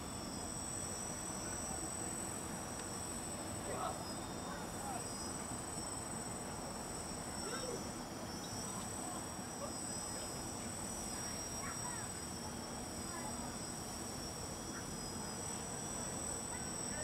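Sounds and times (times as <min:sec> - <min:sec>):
quadcopter motors buzzing: 0:00.0 - 0:17.0.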